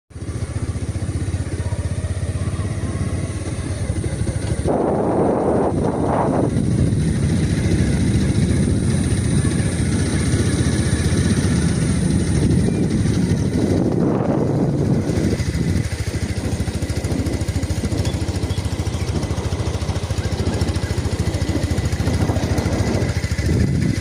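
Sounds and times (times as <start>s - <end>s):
motor engine rumbling: 0.1s - 24.0s.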